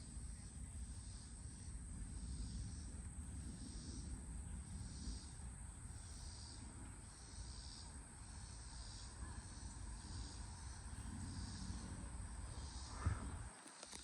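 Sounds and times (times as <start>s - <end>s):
low steady rumble: 0.0s - 13.6s
insects chirping: 0.0s - 14.0s.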